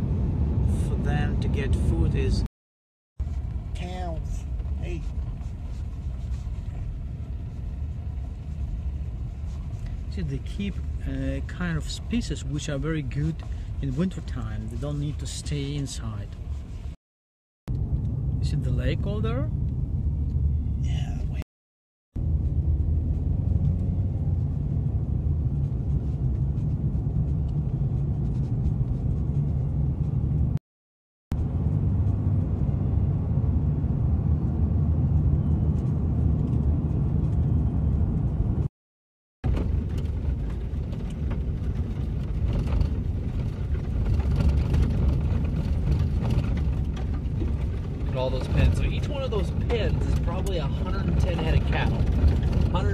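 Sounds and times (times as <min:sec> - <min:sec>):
car road noise rumble: 0:00.0 - 0:02.5, 0:03.2 - 0:17.0, 0:17.7 - 0:21.4, 0:22.2 - 0:30.6, 0:31.3 - 0:38.7, 0:39.4 - 0:52.9.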